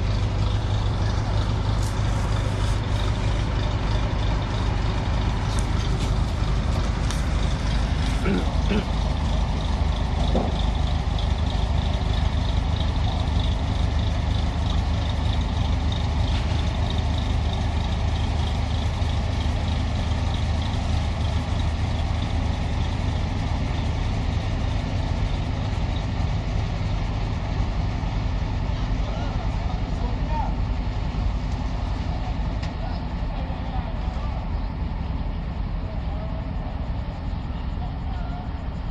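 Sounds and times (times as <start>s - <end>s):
boat engine running: 0.0s - 27.5s, 28.2s - 38.9s.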